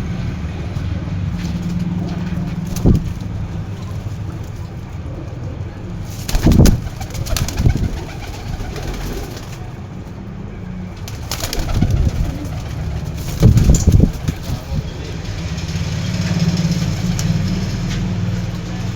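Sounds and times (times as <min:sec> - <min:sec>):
pigeons cooing: 0:00.1 - 0:09.9, 0:11.0 - 0:18.9.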